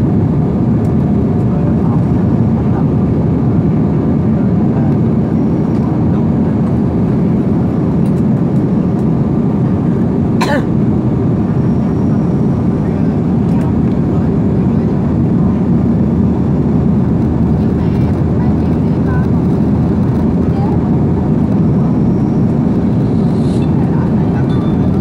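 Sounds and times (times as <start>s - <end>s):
jet engine and airflow rumble: 0.0s - 25.0s.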